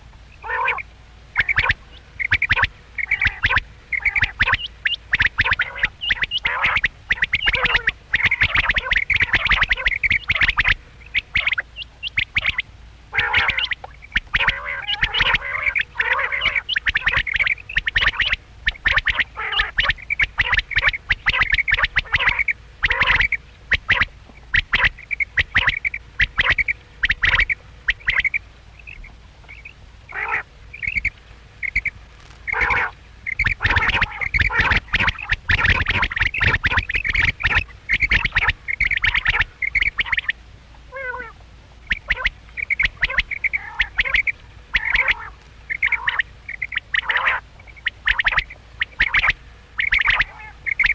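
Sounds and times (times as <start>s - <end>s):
quails calling: 0.0s - 50.9s.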